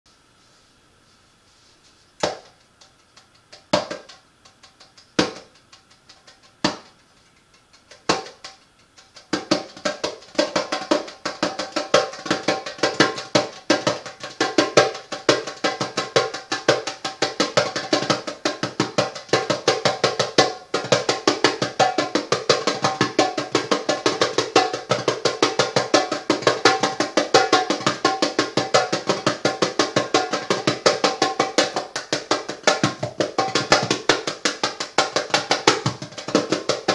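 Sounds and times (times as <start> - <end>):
hand drum played: 3.5 - 6.9, 7.6 - 36.9.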